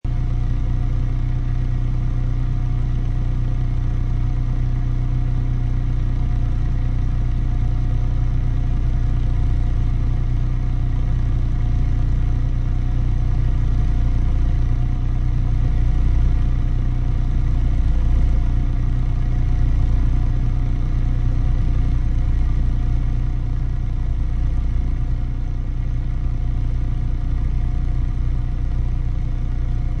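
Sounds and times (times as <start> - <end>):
engine idling at exhaust: 0.0 - 30.0.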